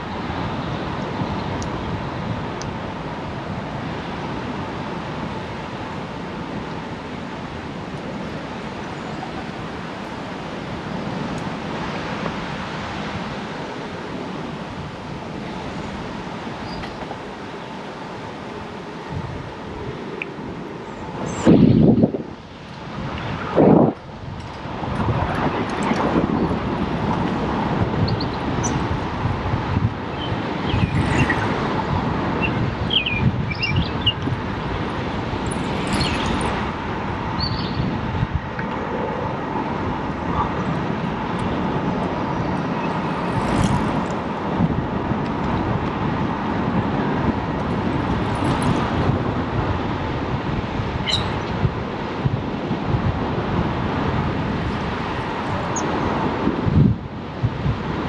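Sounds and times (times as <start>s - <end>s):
bicycle road noise: 0.0s - 58.0s
wind on microphone: 0.0s - 58.0s.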